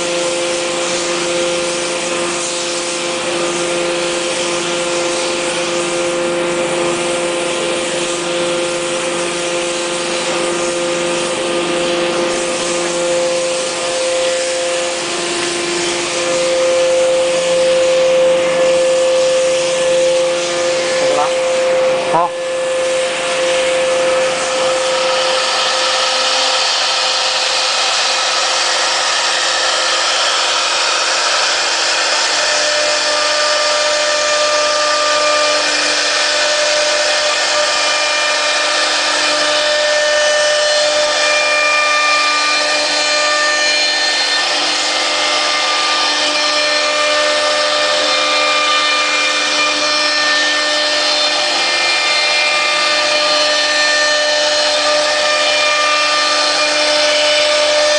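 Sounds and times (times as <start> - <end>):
cnc router spindle whine: 0.0 - 57.9.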